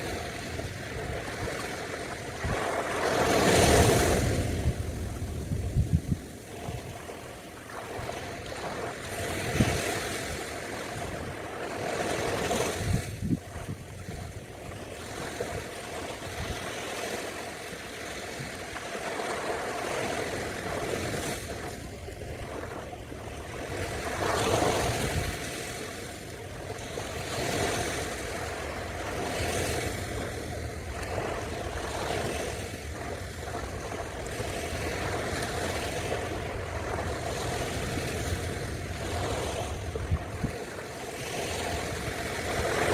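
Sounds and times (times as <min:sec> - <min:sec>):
ocean surf washing onto beach: 0:00.0 - 0:42.9.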